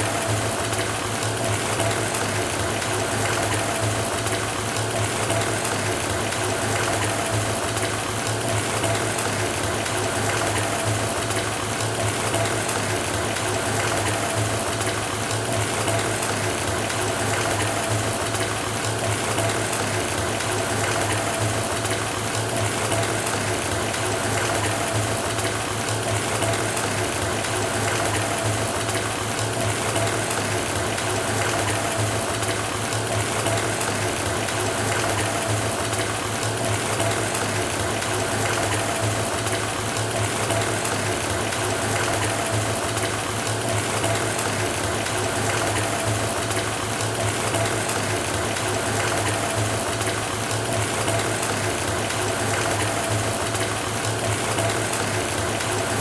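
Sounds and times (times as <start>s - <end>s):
tap water filling bathtub: 0.0s - 56.0s.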